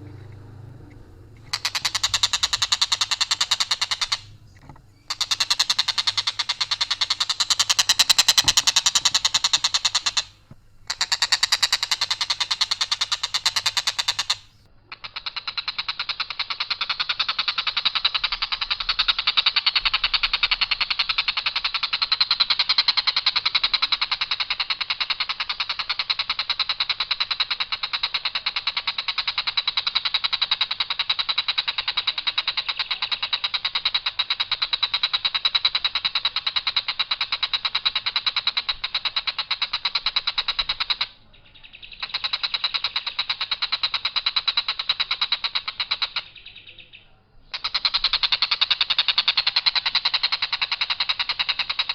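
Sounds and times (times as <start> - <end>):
kingfisher rattling call: 0.0 - 51.9.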